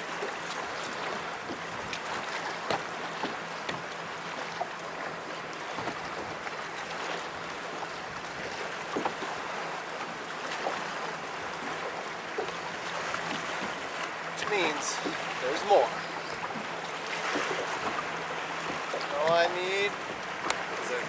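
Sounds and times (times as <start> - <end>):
small waves lapping against hull: 0.0 - 21.0.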